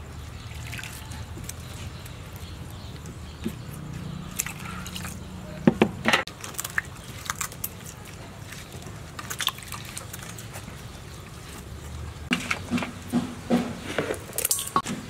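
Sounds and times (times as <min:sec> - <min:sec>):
squelching of wet coconut: 0:00.0 - 0:05.6, 0:06.3 - 0:12.7.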